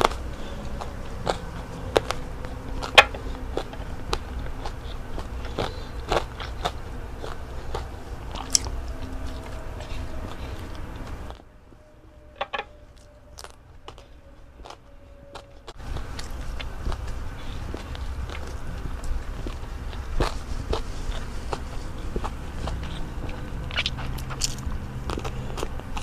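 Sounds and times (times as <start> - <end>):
chewing with wet mouth clicks: 0.0 - 11.4, 13.4 - 26.0.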